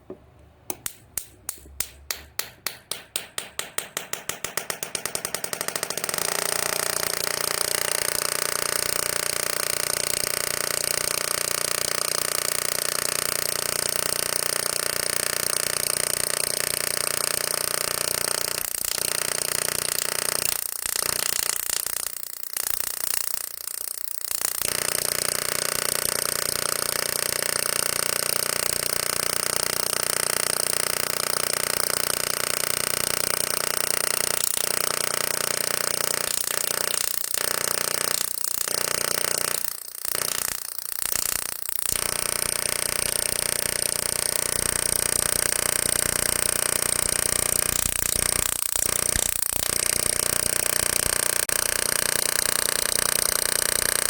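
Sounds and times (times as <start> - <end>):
electric arc snapping and buzzing: 0.8 - 54.0.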